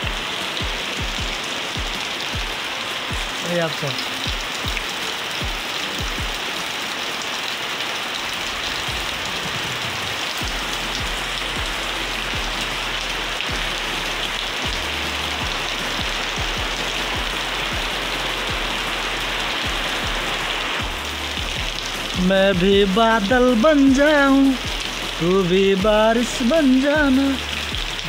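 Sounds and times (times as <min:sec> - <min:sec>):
heavy rain on puddles: 0:00.0 - 0:28.0.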